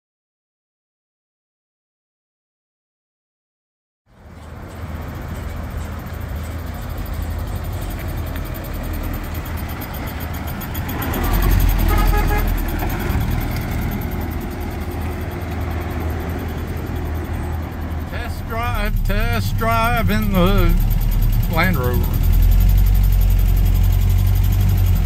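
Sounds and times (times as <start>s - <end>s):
vehicle engine driving past: 4.1s - 25.0s.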